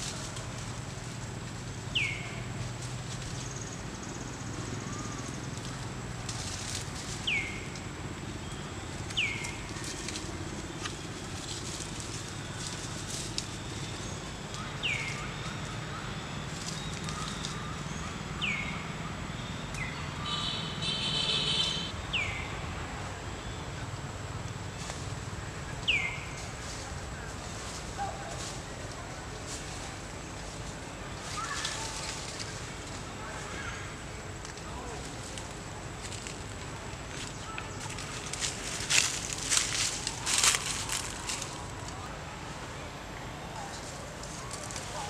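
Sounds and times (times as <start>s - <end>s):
leaves rustling: 0.0s - 45.0s.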